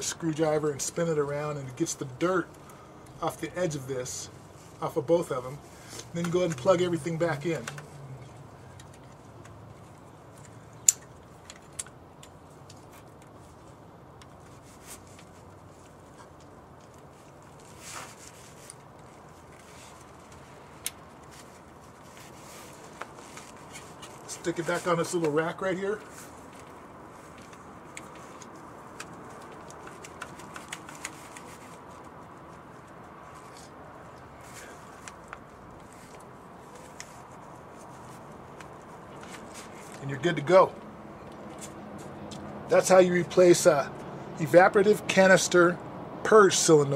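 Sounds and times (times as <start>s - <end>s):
steady background hiss: 0.0s - 46.9s.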